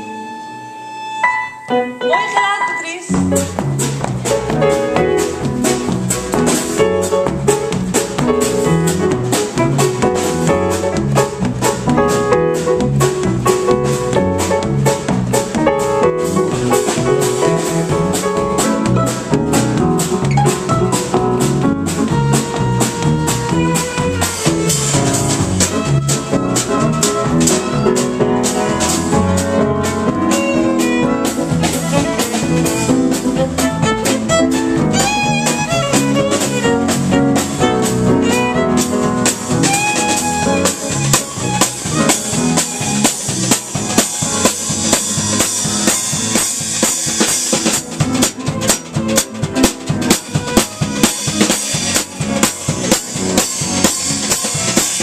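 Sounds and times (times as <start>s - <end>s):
live band playing: 0.0s - 55.0s
drum kit beat: 1.3s - 55.0s.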